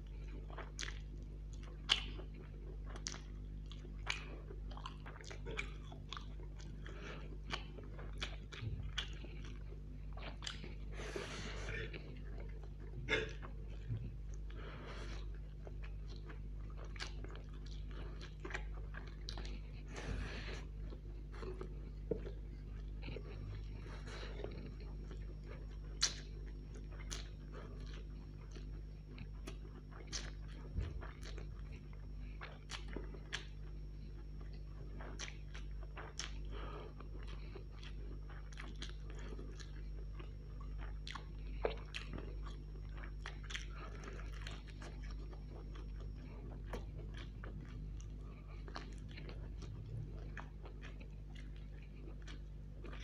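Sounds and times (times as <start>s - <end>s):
man chewing and biting food: 0.0s - 53.0s
steady low hum: 0.0s - 53.0s.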